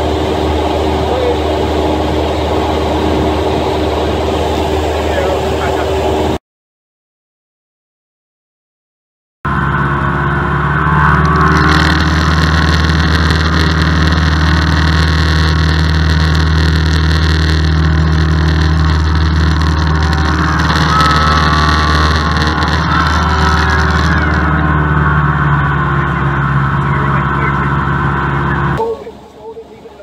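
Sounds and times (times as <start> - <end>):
light aircraft engine droning: 0.0 - 6.4, 9.5 - 30.0.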